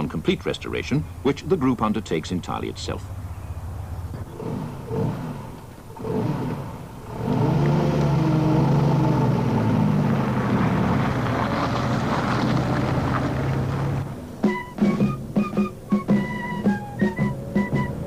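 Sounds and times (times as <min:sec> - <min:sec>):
military vehicle engine running: 0:00.0 - 0:18.0.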